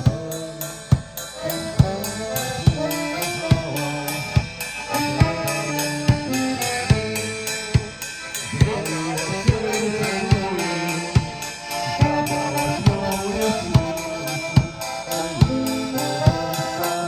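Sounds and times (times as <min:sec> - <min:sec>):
drum kit beat: 0:00.0 - 0:17.0
held melody notes: 0:00.0 - 0:17.0.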